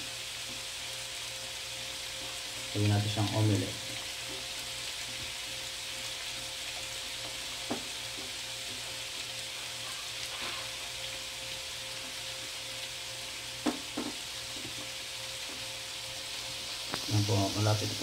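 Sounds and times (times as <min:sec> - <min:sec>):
eggs sizzling in a frying pan: 0:00.0 - 0:18.0.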